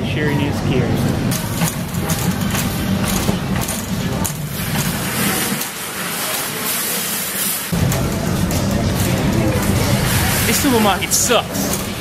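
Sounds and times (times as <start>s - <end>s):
shopping trolley wheels rumbling: 0.0s - 12.0s
metal basket rattling: 1.0s - 12.0s.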